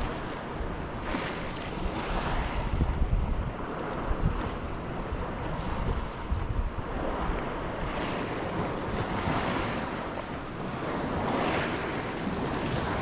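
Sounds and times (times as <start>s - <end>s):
sea waves washing in: 0.0s - 13.0s
wind rumbling on microphone: 0.0s - 13.0s.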